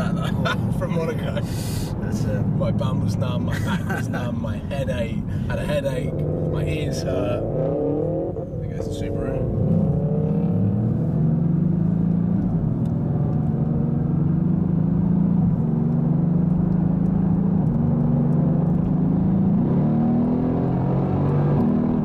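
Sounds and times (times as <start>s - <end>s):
car engine droning: 0.0s - 22.0s
road and tyre noise: 0.0s - 22.0s.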